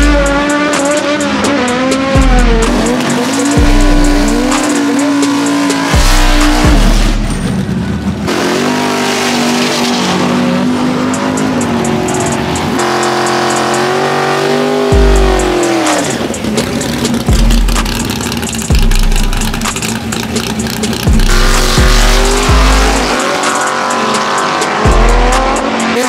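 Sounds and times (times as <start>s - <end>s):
music with ticking beat and bass: 0.0s - 7.5s, 10.8s - 26.0s
engines revving: 0.0s - 26.0s.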